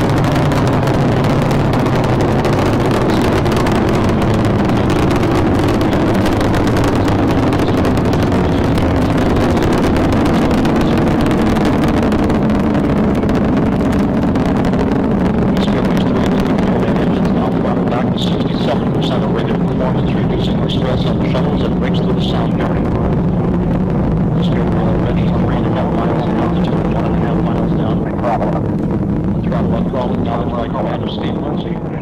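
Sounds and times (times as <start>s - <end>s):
crackling hiss: 0.0s - 32.0s
rocket engines deep rumble: 0.0s - 32.0s.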